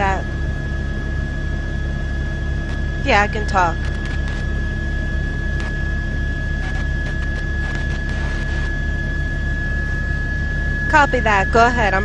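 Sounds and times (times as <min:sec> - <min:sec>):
constant high tone: 0:00.0 - 0:12.0
helicopter rotor throb: 0:00.0 - 0:12.0.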